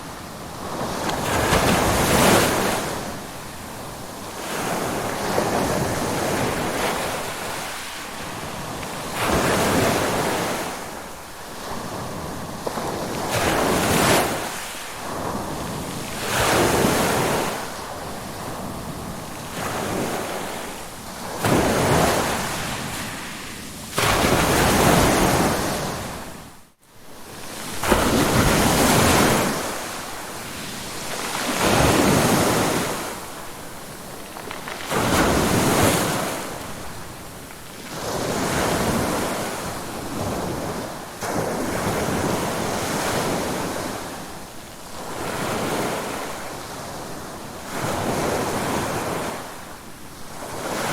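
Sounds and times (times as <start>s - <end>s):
ocean waves surging and washing back: 0.0s - 50.9s.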